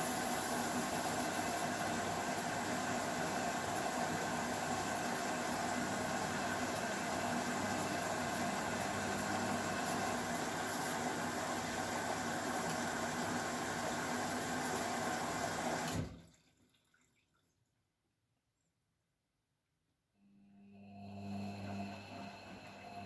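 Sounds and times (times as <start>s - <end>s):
water rushing in washing machine: 0.0s - 17.2s, 21.2s - 23.0s.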